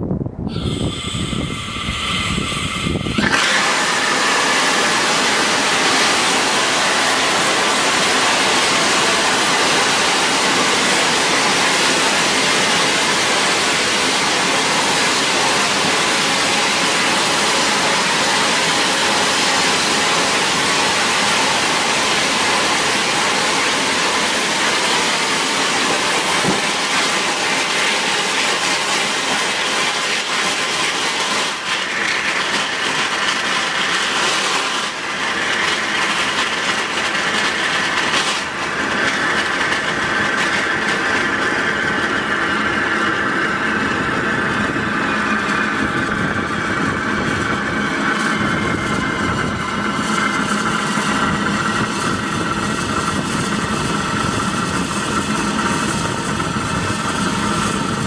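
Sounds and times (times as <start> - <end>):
rocket engine exhaust roar: 0.0 - 58.0.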